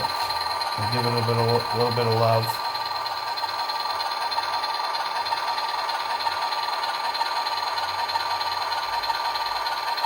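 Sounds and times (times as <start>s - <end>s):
diesel engine sound from small speaker: 0.0s - 10.0s
model train motor whine: 0.0s - 10.0s.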